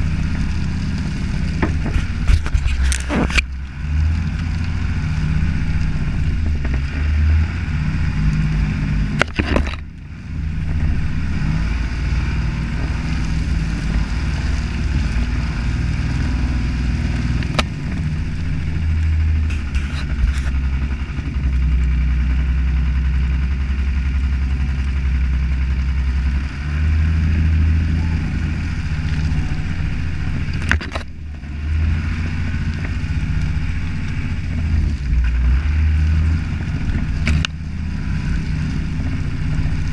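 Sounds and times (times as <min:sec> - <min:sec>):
diesel engine running: 0:00.0 - 0:39.9
tyres on muddy track: 0:00.0 - 0:39.9.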